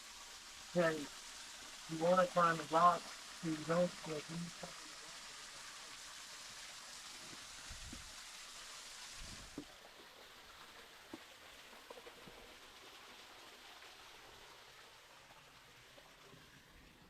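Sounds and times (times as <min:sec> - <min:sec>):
stream water hissing: 0:00.0 - 0:17.0.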